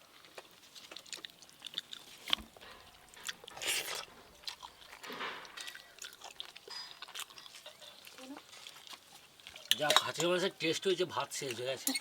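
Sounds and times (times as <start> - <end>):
person chewing food: 0.1 - 9.8.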